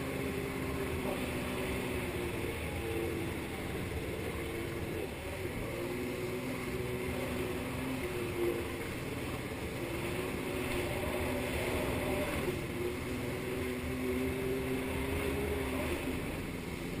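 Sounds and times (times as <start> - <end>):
jet ski engine running: 0.0 - 17.0
water spray rushing: 0.0 - 17.0.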